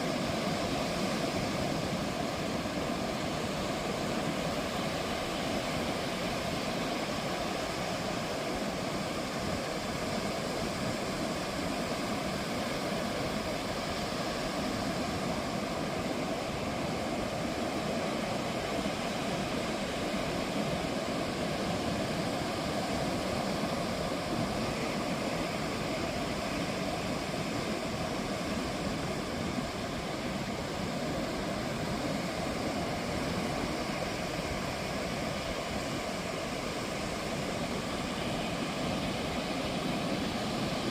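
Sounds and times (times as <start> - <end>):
ocean surf washing onto beach: 0.0 - 40.9.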